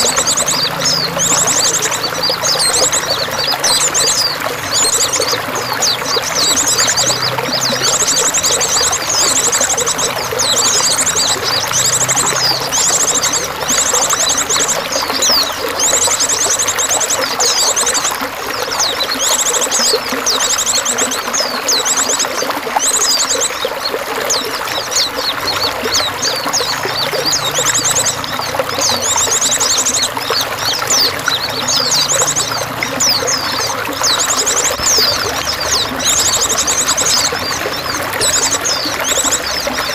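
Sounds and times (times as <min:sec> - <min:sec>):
songbirds chirping and trilling: 0:00.0 - 0:39.9
water trickling and pouring: 0:00.0 - 0:39.9.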